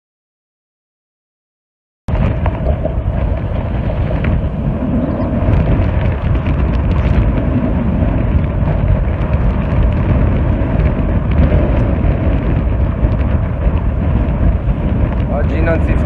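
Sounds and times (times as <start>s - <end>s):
wind buffeting microphone: 2.1s - 16.0s.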